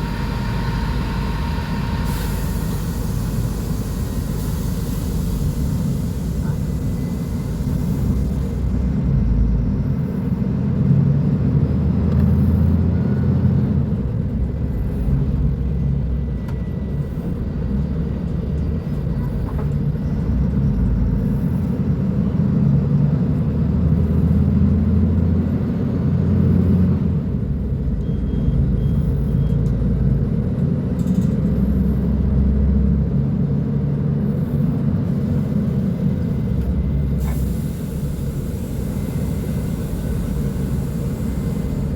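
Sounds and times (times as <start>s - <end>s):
bus diesel engine rumbling: 0.0s - 41.9s.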